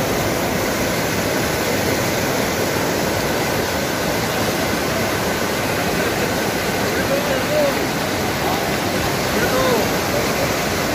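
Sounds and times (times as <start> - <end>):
river rushing over boulders: 0.0 - 10.9.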